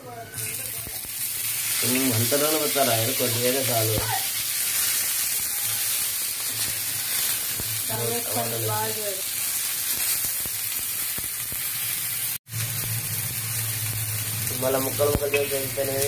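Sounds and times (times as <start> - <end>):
tomatoes sizzling in a pan: 0.0 - 16.0.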